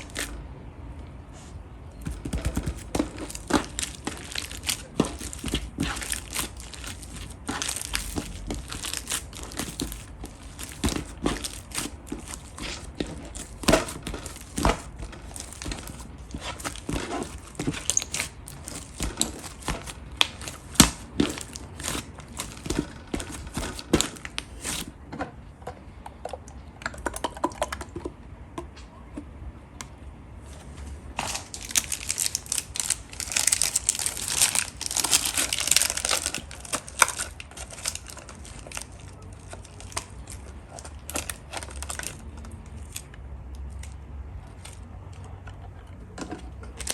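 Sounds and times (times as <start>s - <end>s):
slime squishing: 0.0s - 0.4s, 1.4s - 25.0s, 30.4s - 46.9s.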